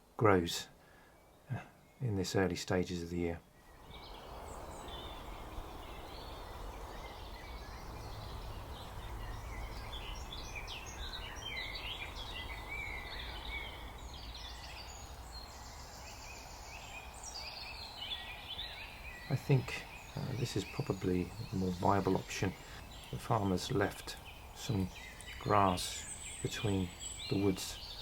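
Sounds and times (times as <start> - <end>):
outdoor hiss: 0.0 - 28.0
songbirds chirping and trilling: 0.0 - 28.0.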